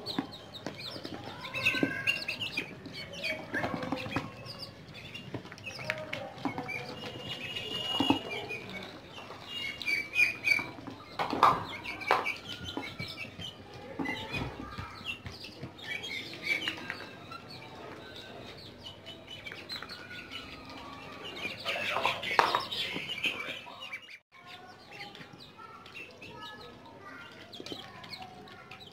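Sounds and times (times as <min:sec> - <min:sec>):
beaks tapping on metal tray: 0:00.0 - 0:28.9
chicks peeping: 0:00.0 - 0:28.9.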